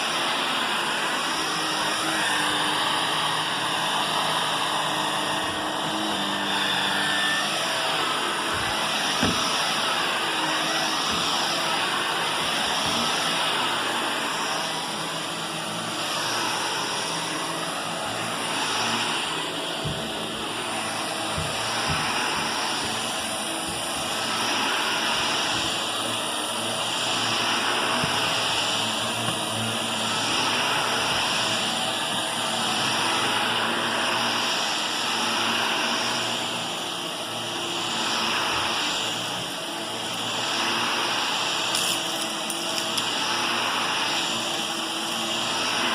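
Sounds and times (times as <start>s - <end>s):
vacuum cleaner on carpet: 0.0s - 45.9s.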